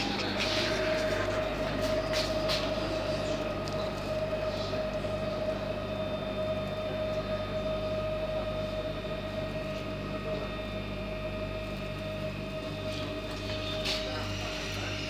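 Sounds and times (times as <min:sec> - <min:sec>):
electric hum in train carriage: 0:00.0 - 0:15.0.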